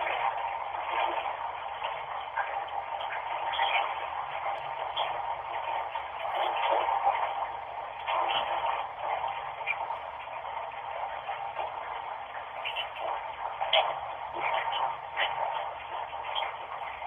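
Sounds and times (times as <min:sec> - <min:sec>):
small clicks and splashes: 0:00.0 - 0:17.0.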